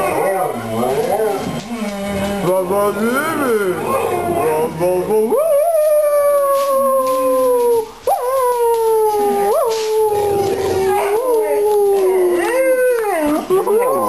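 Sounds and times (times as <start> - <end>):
dogs howling: 0.0 - 14.0.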